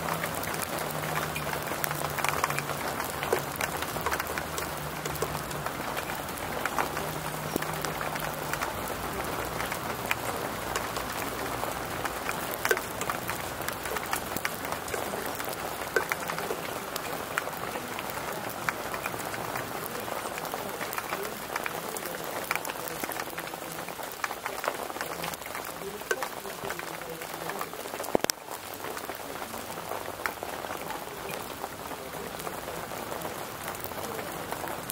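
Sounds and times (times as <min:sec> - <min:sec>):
rain pattering on driveway: 0:00.0 - 0:34.9
sharp raindrop ticks: 0:00.0 - 0:34.9.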